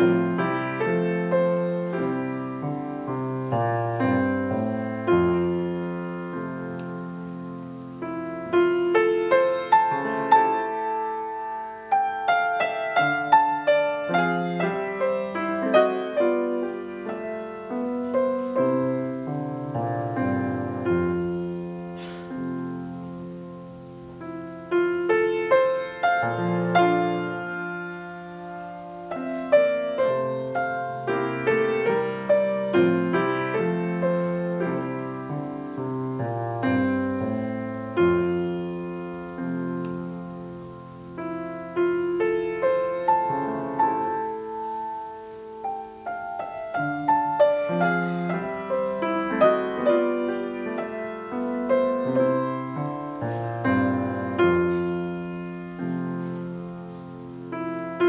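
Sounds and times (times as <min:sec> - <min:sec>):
classical piano piece: 0:00.0 - 0:58.0.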